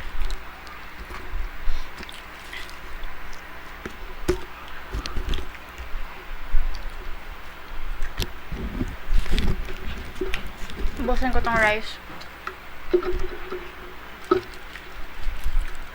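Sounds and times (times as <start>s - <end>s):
chewing with wet squishes: 0.0s - 15.9s.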